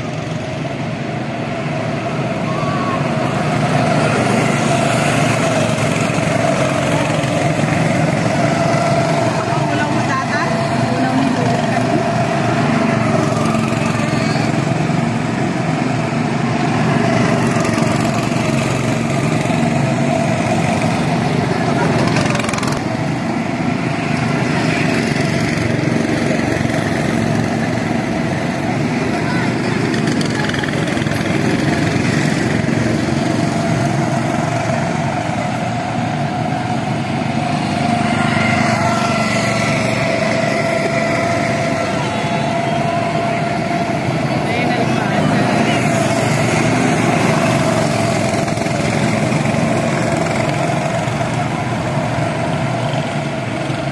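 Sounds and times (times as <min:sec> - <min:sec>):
go-kart engines running: 0:00.0 - 0:53.9.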